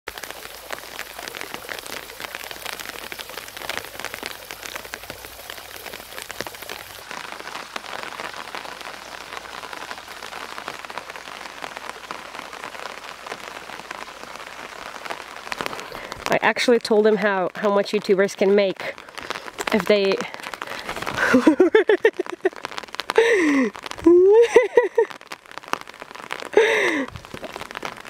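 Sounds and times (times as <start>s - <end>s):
rain on creek water: 0.0s - 28.0s
steady rain falling: 0.1s - 28.0s.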